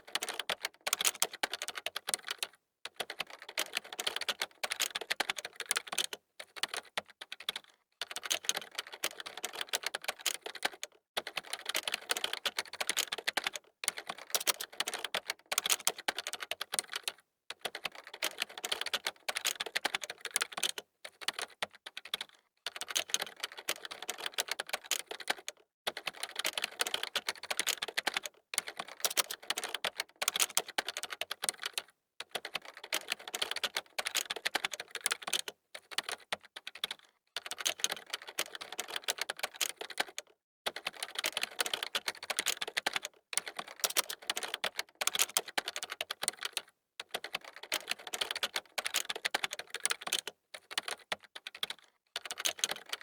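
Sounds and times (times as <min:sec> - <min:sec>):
computer keyboard typing: 0:00.0 - 0:53.0.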